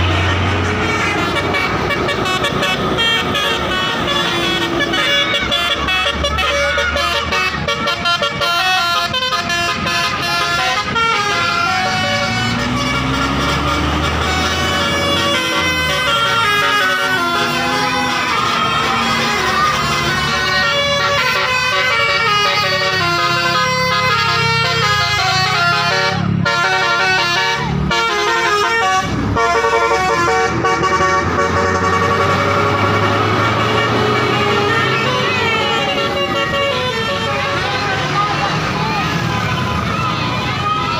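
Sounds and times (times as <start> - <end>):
bus engine rumble: 0.0 - 40.9
multi-tone bus horn melody: 0.0 - 40.9.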